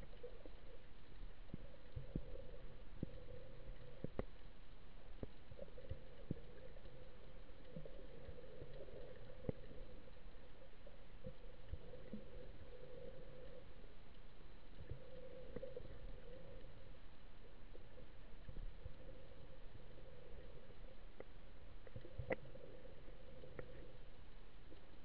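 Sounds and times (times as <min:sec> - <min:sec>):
faint underwater clicks: 0:00.0 - 0:25.0
underwater hum: 0:00.0 - 0:25.0.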